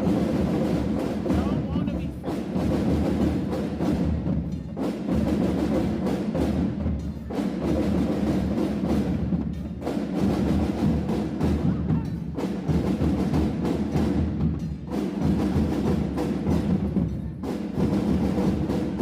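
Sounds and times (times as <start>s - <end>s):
drumline playing a cadence: 0.0s - 19.0s.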